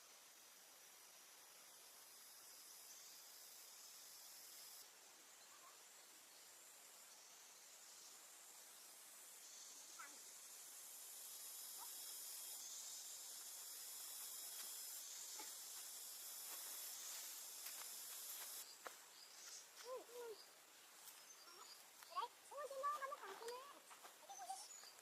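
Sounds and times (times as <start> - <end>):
outdoor countryside hiss: 0.0 - 25.0
faint chirps: 1.0 - 25.0.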